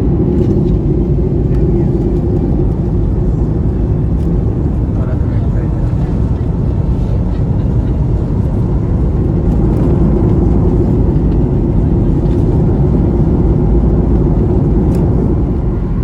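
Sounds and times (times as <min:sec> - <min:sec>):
jet engine rumble and airflow: 0:00.0 - 0:16.0.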